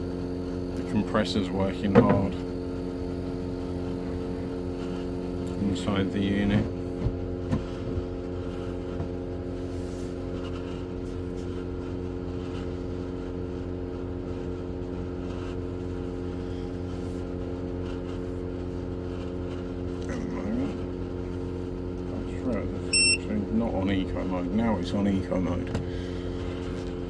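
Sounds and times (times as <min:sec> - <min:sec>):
air conditioner humming: 0:00.0 - 0:27.0.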